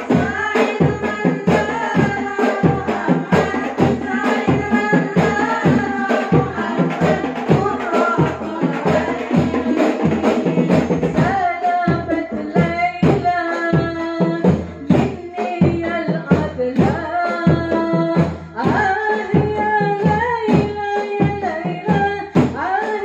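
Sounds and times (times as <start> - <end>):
frame drums beating a rhythm: 0.0 - 23.0
women singing into microphones: 0.0 - 23.0.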